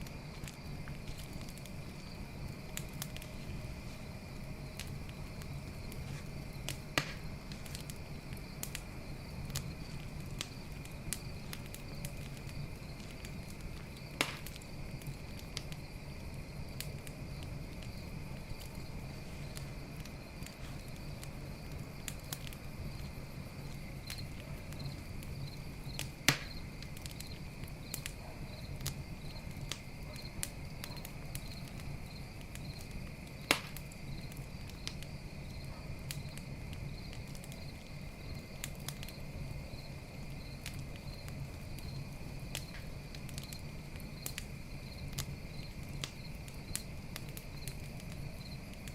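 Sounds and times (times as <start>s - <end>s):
campfire crackling: 0.0s - 48.9s
crickets trilling: 0.0s - 48.9s
loud fire pops: 0.0s - 48.9s.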